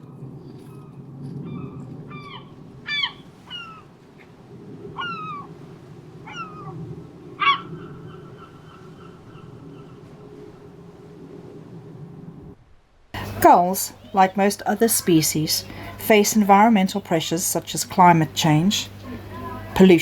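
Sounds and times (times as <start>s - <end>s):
gulls calling: 0.0s - 11.7s, 13.2s - 20.0s.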